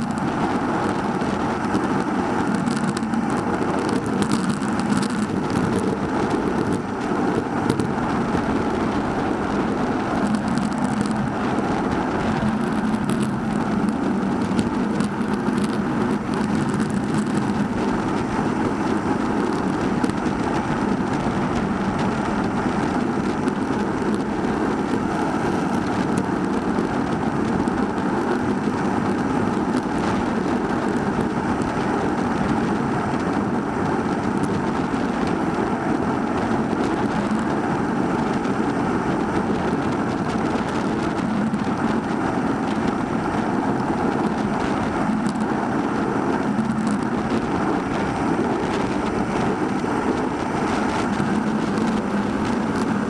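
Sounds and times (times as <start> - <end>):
wind and road noise from bicycle: 0.0 - 53.0.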